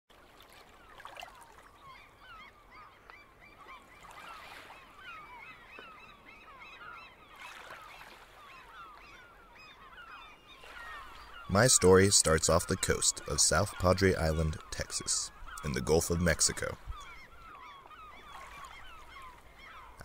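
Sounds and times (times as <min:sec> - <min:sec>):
flock of birds calling: 0:01.7 - 0:20.0.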